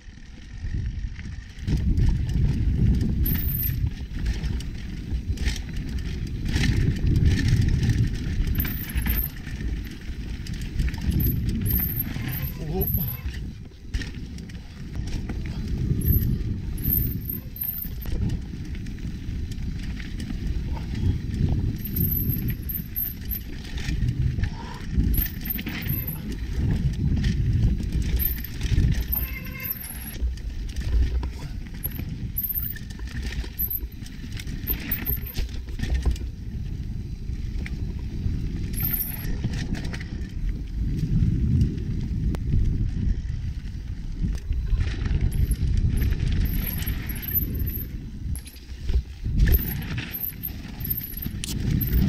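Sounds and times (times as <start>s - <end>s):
bike tyres rumbling on dirt: 0.0s - 52.0s
wind on microphone: 0.0s - 52.0s
bike knocks and rattles: 0.6s - 52.0s.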